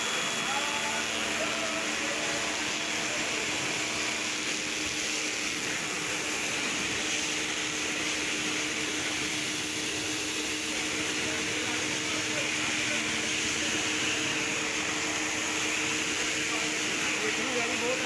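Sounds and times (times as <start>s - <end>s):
machine hissing and humming: 0.0s - 18.0s.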